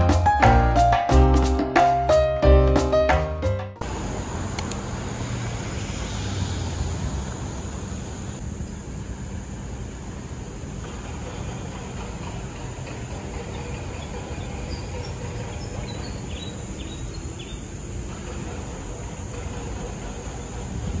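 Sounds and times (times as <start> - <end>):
low rumble of city traffic: 3.4 - 21.0
high hiss: 3.8 - 21.0.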